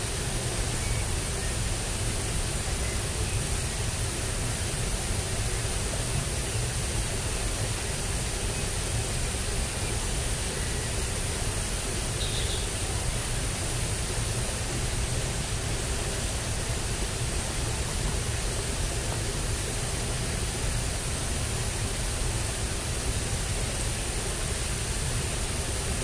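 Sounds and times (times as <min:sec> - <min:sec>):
thin high hiss: 0:00.0 - 0:26.0.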